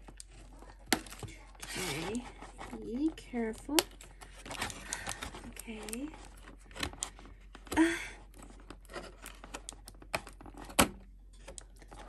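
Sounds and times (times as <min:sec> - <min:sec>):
packaging rustling: 0:00.0 - 0:10.8.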